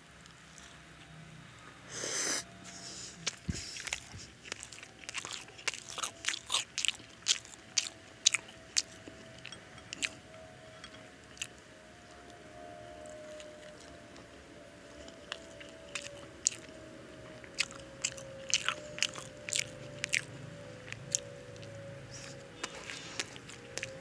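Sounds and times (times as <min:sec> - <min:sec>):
wet chewing with crunches: 0:02.7 - 0:10.3, 0:11.2 - 0:24.0.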